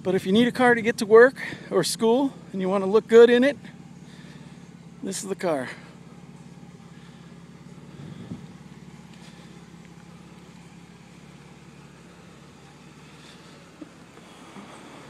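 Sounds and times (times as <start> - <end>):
faint car engine idling hum: 0.0 - 15.0.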